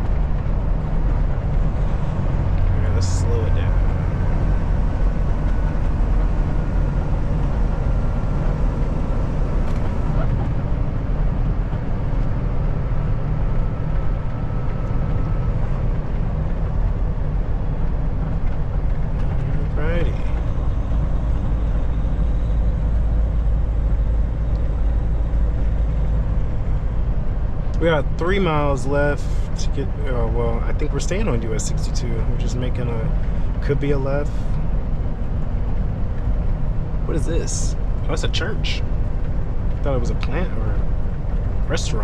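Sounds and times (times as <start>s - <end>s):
truck engine and road rumble: 0.0s - 42.0s.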